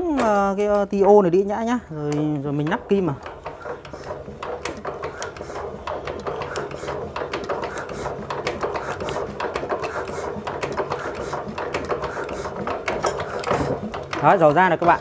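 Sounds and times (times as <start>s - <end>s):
diesel engine cranked by hand clicking: 2.1s - 15.0s.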